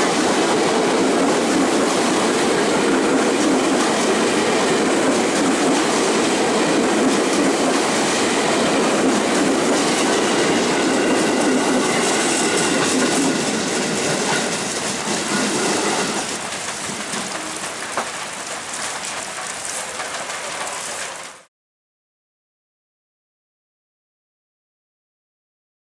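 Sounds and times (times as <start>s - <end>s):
electric train rumbling past: 0.0s - 21.5s.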